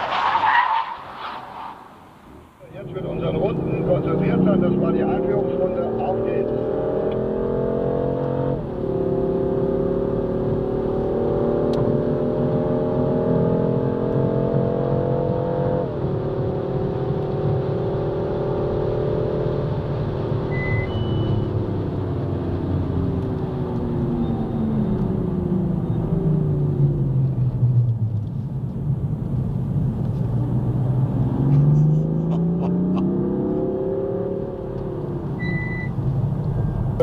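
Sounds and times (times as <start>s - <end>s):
car engine accelerating: 2.3s - 37.0s.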